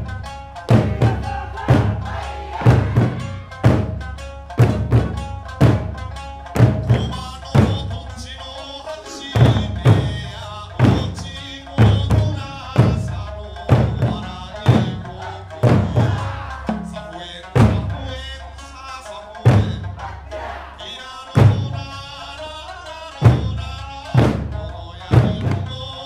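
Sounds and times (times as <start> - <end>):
drums struck on a steady beat: 0.0 - 22.2, 23.2 - 26.0
folk song with lute and singing: 0.0 - 26.0.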